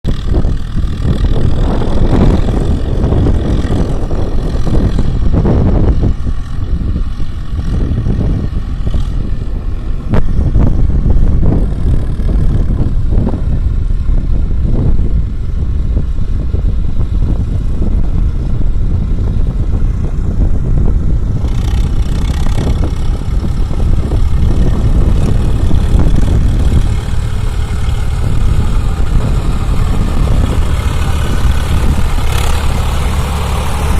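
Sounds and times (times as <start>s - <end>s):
tractor engines running: 0.0s - 33.9s.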